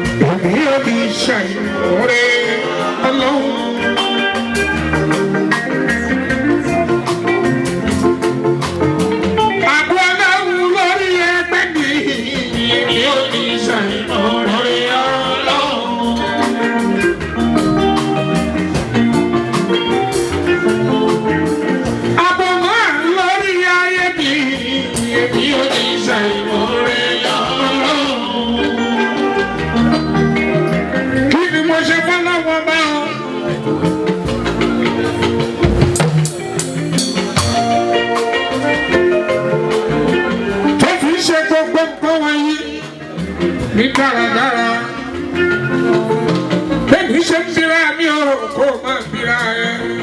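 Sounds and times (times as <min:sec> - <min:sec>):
drums and percussion beat: 0:00.0 - 0:32.4, 0:33.4 - 0:49.8
keyboard-like chords: 0:00.0 - 0:50.0.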